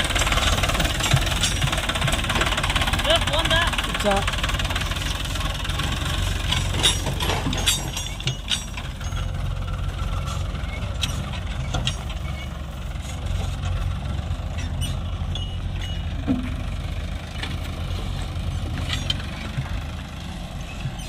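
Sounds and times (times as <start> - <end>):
sharp clicks and rattles: 0.0 - 21.0
tractor diesel engine running: 0.0 - 21.0.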